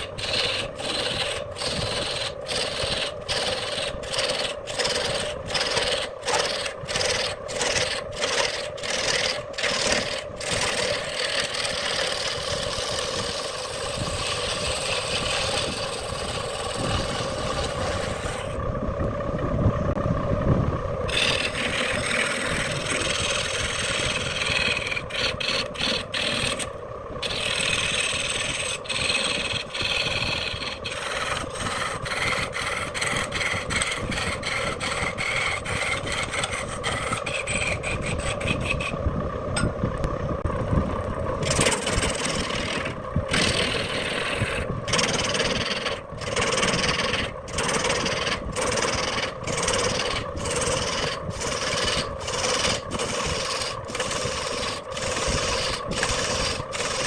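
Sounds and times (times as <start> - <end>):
turning tool scraping wood: 0.0 - 18.6, 21.1 - 39.0, 41.4 - 57.0
wood lathe humming: 0.0 - 19.3, 21.1 - 57.0.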